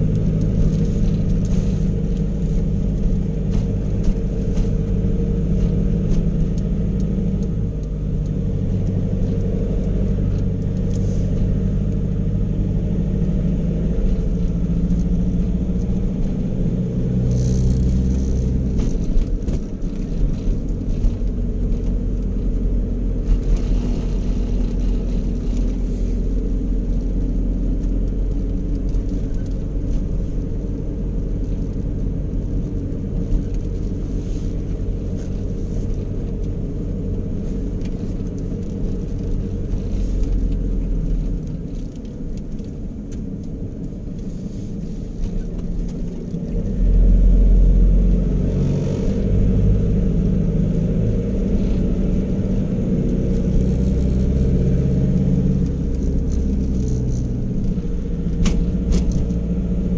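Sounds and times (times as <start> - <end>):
vehicle engine and road drone: 0.0 - 59.9.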